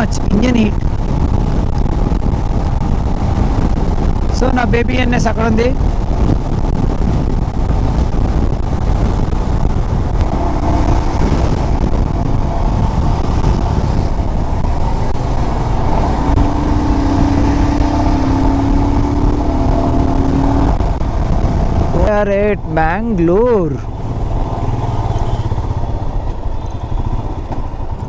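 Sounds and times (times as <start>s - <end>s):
motorcycle engine running: 0.0s - 5.0s, 5.6s - 22.5s, 23.6s - 28.0s
wind and road noise: 0.0s - 28.0s.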